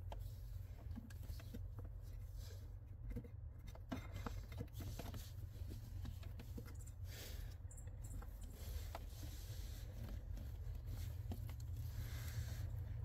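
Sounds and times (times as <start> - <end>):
small clicks taps and rustles: 0.0 - 7.0, 7.7 - 12.0.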